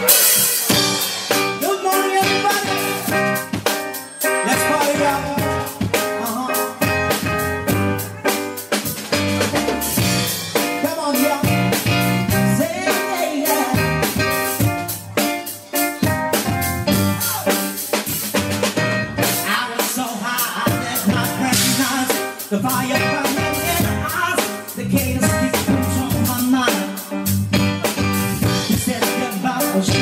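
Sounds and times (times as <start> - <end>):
person singing: 0.0 - 3.4, 4.2 - 8.7, 10.6 - 16.2, 19.2 - 30.0
keyboard chords: 0.0 - 19.9, 20.7 - 30.0
drum kit beat: 0.0 - 30.0.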